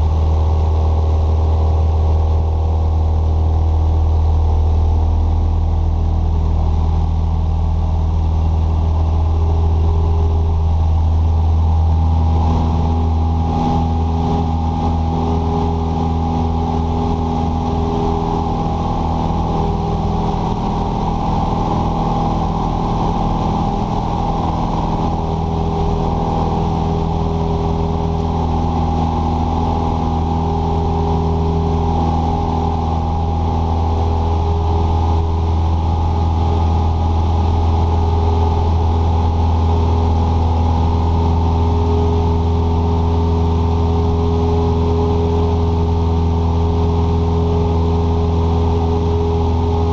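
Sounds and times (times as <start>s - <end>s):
aircraft engine droning in cabin: 0.0s - 49.9s.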